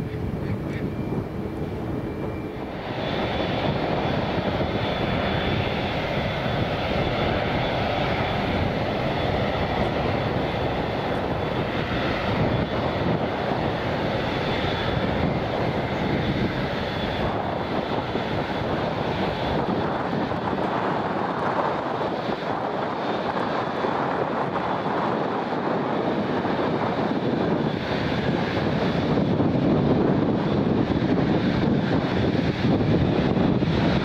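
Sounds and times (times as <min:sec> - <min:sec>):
jet engines at high power: 0:00.0 - 0:34.0.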